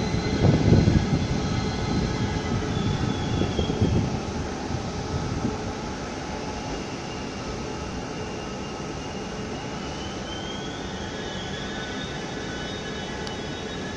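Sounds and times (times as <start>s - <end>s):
high train whine: 0.0s - 13.9s
train rumbling pulling away: 0.0s - 13.9s.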